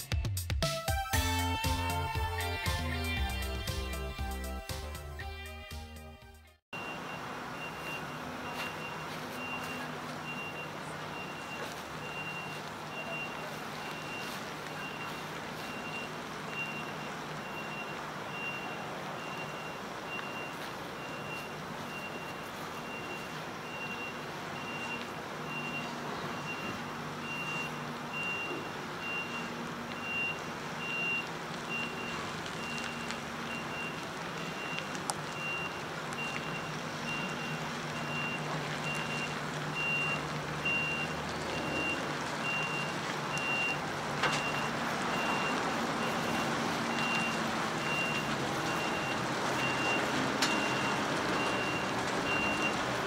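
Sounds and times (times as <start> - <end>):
diesel engine running: 6.7 - 53.0
truck reversing alarm beeping: 6.7 - 53.0.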